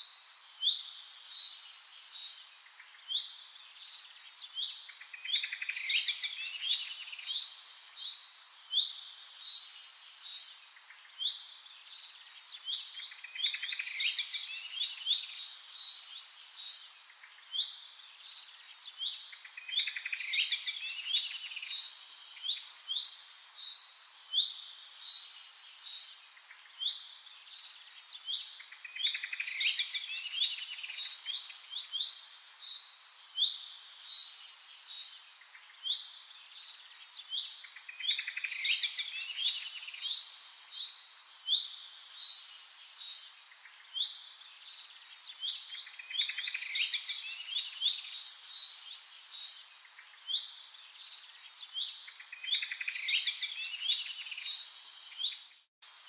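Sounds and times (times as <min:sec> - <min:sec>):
birdsong chirps and trills: 0:00.0 - 0:56.0.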